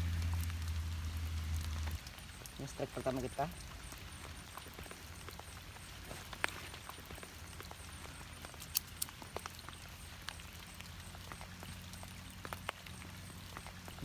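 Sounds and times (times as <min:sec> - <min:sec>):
faint insect chirp pulsing: 0:00.0 - 0:14.0
low hum: 0:00.0 - 0:14.0.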